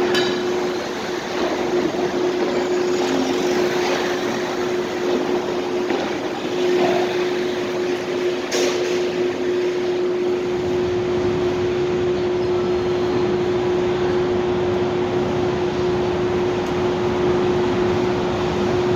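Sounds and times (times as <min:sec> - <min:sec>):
constant hum: 0:00.0 - 0:18.9.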